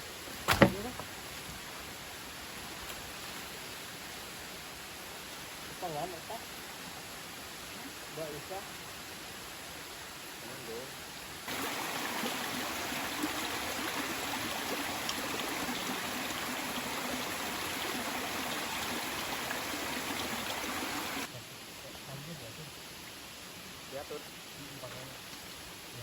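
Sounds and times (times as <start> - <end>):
stream water flowing: 0.0 - 21.3.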